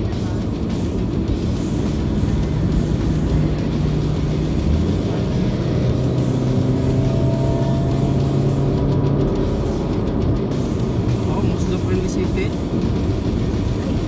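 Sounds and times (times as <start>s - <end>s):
car road and engine noise: 0.0s - 14.0s
music playing in car: 0.0s - 14.0s.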